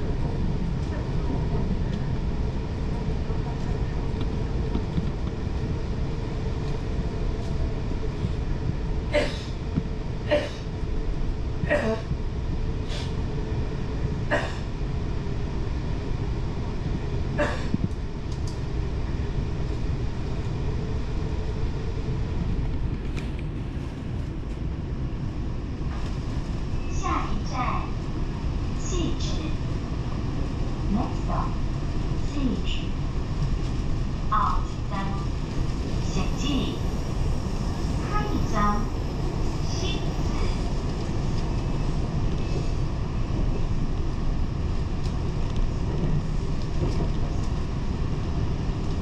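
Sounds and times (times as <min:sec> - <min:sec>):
train rumbling: 0:00.0 - 0:49.0.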